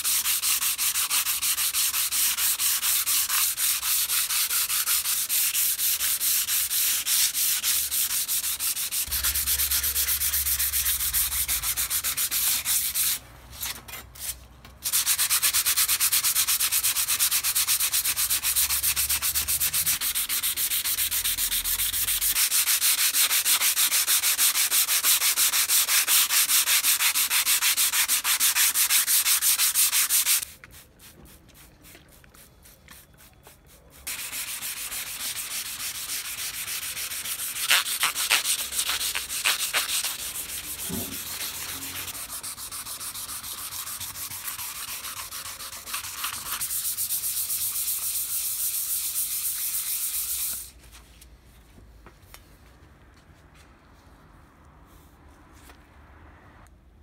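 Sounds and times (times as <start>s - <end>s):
sandpaper rubbing on steel: 0.0s - 13.2s, 14.2s - 31.7s, 33.9s - 50.7s.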